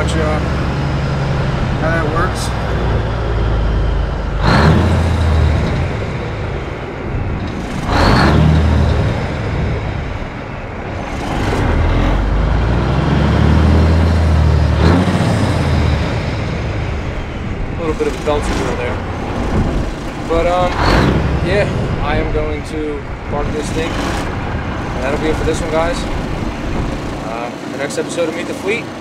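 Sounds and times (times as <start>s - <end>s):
diesel truck engine revving: 0.0s - 29.0s.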